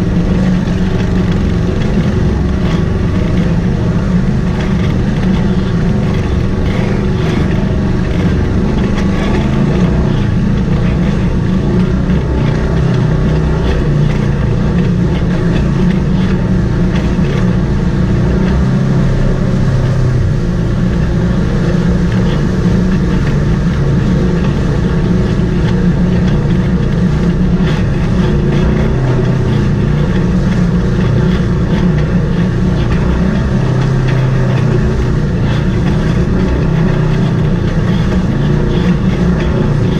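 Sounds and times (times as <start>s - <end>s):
utility vehicle engine running: 0.0s - 39.9s
vehicle knocks and rattles: 0.0s - 39.9s.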